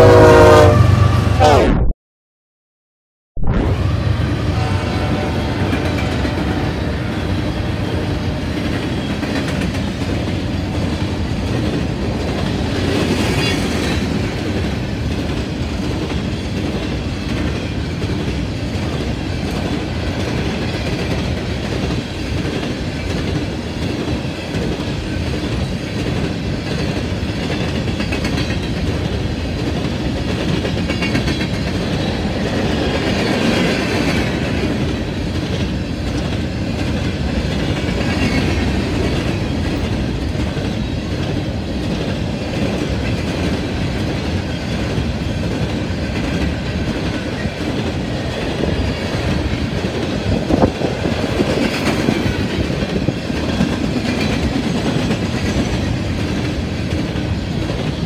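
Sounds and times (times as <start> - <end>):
train wheels clattering rhythmically: 8.4 - 58.0.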